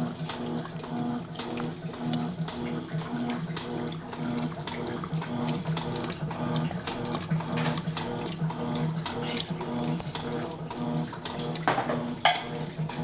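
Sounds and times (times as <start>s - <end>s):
washing machine motor hum pulsing: 0.0s - 13.0s
water sloshing and splashing: 0.0s - 13.0s.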